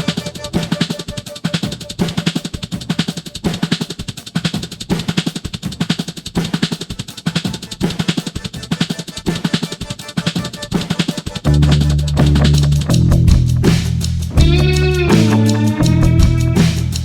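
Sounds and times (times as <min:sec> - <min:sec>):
music with fast drum beat: 0:00.0 - 0:17.0.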